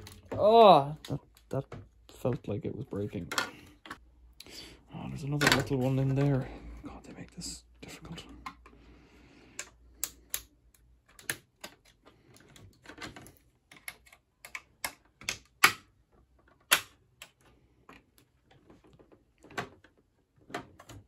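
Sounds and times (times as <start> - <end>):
plastic parts clicking and knocking: 0.0 - 4.1, 5.2 - 6.5, 7.9 - 8.8, 9.5 - 21.0.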